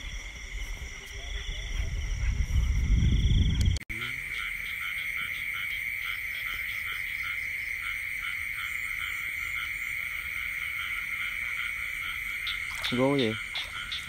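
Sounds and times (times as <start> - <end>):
frogs calling: 0.9 - 14.0.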